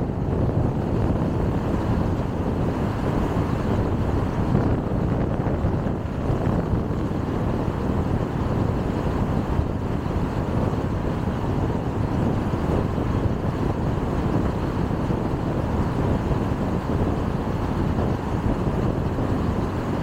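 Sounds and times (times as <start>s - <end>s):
car tyres rumbling on road: 0.0s - 20.0s.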